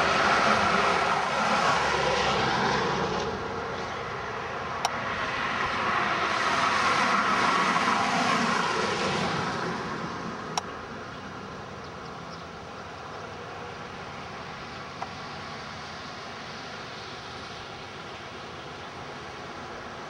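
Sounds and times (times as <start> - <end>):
road vehicle passing: 0.0 - 20.0.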